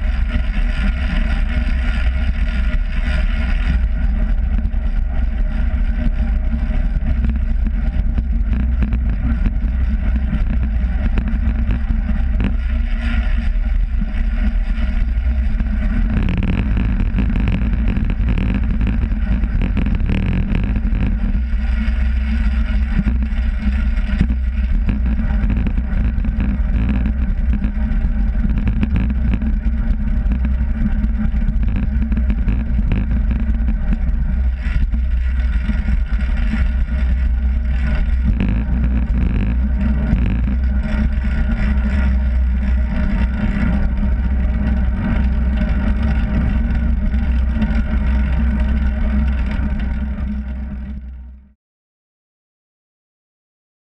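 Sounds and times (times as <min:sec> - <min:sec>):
wind rushing over camera: 0:00.0 - 0:51.4.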